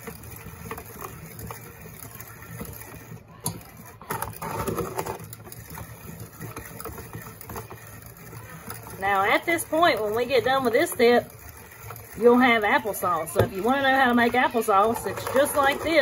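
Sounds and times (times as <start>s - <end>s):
food mill blade scraping: 0.0s - 16.0s.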